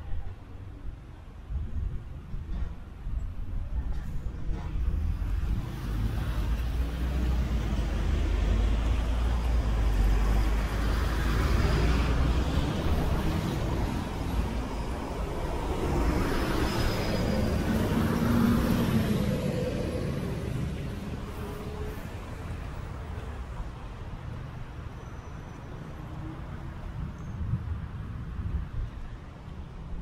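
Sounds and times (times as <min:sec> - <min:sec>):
vehicles driving past: 0:04.1 - 0:30.0.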